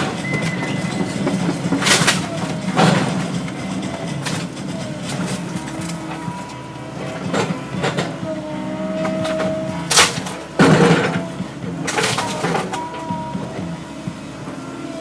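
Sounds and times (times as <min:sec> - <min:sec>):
wood snaps and squeaks: 0:00.0 - 0:08.2, 0:08.9 - 0:13.2
wood cracking and splintering: 0:00.0 - 0:13.7
excavator diesel engine running: 0:00.0 - 0:15.0.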